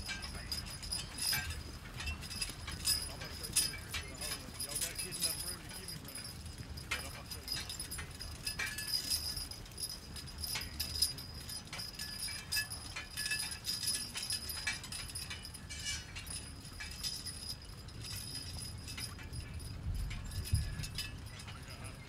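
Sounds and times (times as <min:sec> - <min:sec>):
harness and chains jingling: 0:00.0 - 0:22.0.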